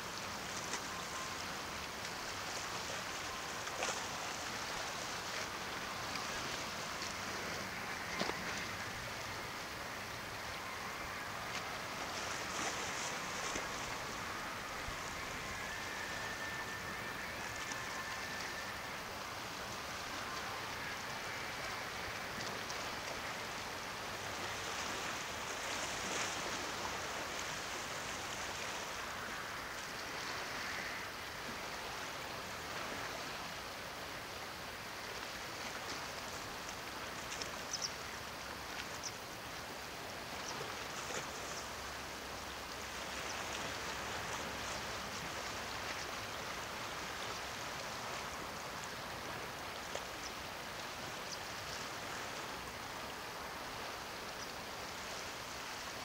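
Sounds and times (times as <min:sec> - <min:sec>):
waves lapping against rocks: 0:00.0 - 0:56.0.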